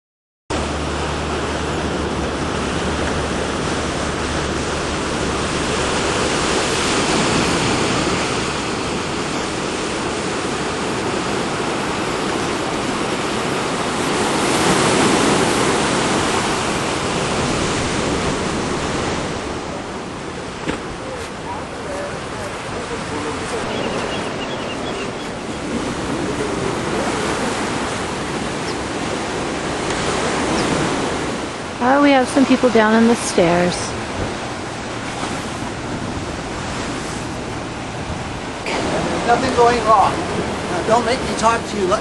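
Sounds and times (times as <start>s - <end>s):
ocean surf washing ashore: 0.5s - 42.0s.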